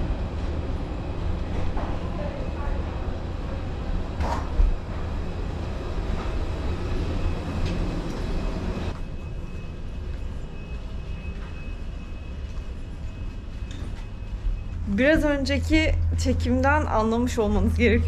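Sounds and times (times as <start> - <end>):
moving vehicle rumble: 0.0 - 18.0.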